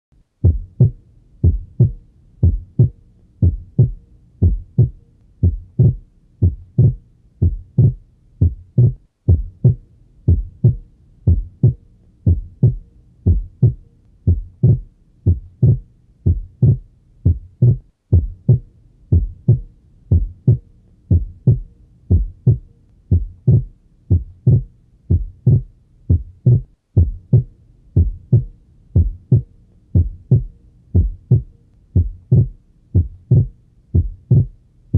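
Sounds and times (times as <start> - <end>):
heartbeat through stethoscope: 0.4 - 34.6.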